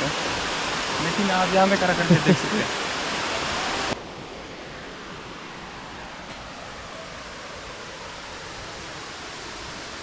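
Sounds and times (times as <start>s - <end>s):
distant waterfall rushing: 0.0s - 10.0s.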